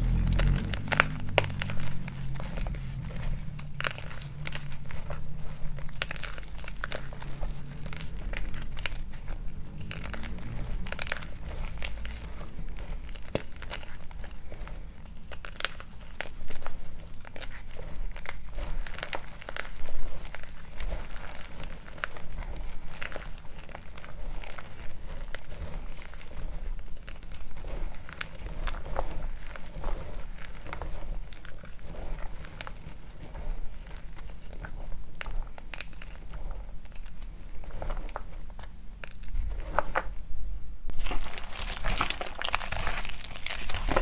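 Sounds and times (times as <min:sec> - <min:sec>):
chalk crunching in hands: 0:00.0 - 0:40.2, 0:40.9 - 0:44.0.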